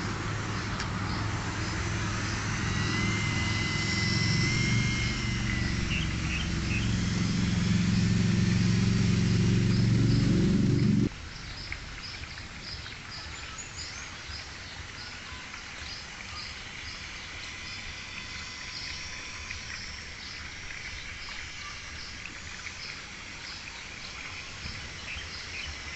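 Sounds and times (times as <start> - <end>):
loud low hum: 0.0 - 11.7, 13.2 - 25.9.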